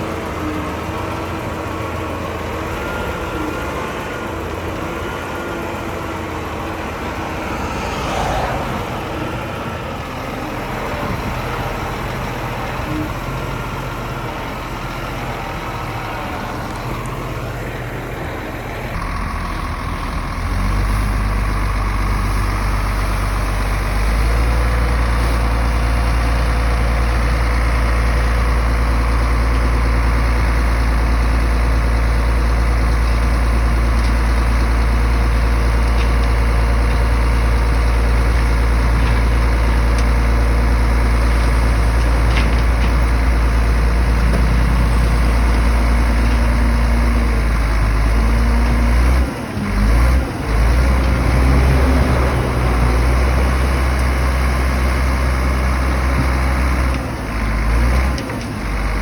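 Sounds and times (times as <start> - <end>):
bulldozer engine droning: 0.0 - 59.0.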